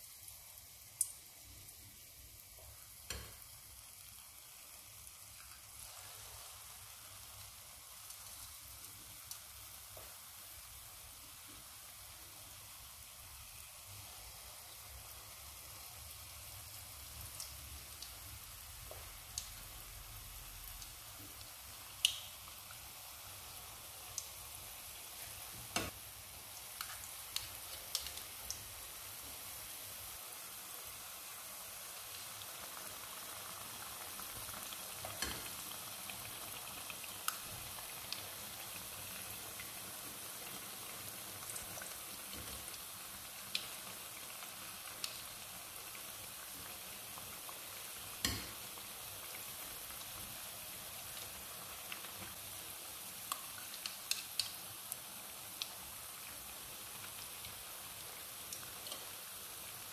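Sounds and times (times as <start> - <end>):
batter sizzling in hot oil: 0.0 - 59.9.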